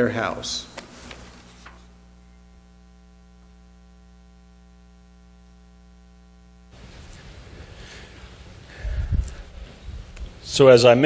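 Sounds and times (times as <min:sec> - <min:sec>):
electrical hum from sound system: 0:00.0 - 0:11.0.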